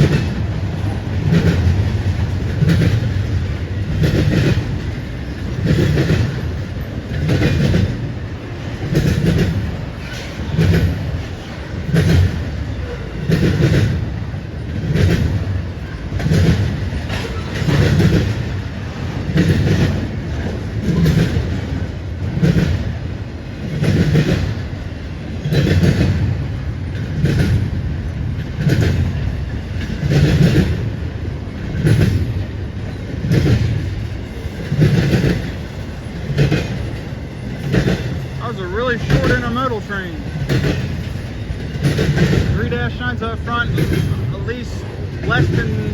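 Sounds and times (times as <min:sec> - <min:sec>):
train wheels clacking over rails: 0:00.0 - 0:45.9.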